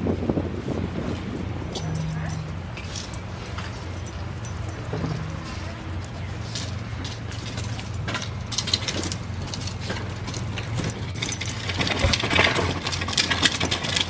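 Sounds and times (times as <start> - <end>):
steady low hum: 0.0 - 14.0
dog collar tags jingling: 1.0 - 14.0.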